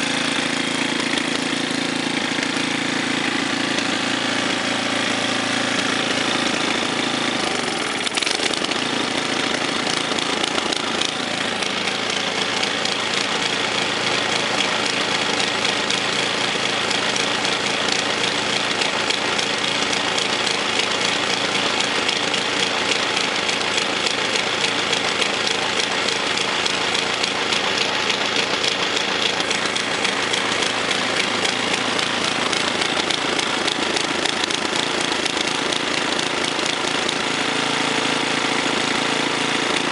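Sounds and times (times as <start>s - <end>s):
snow thrower engine running: 0.0s - 39.9s.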